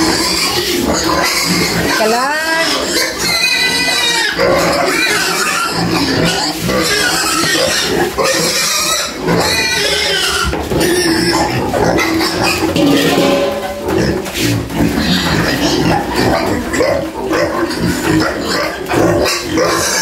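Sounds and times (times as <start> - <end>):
pigs squealing and grunting: 0.0 - 20.0.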